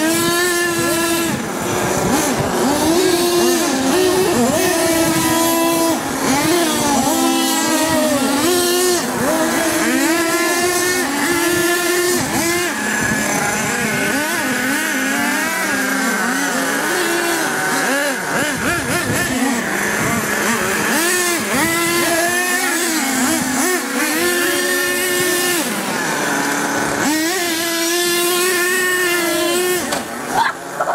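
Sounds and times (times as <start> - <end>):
toy truck motors revving: 0.0 - 30.9.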